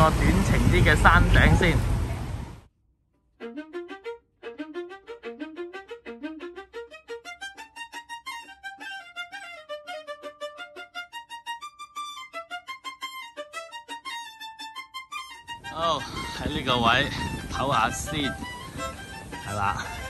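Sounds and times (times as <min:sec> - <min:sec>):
violin music: 0:03.4 - 0:20.0.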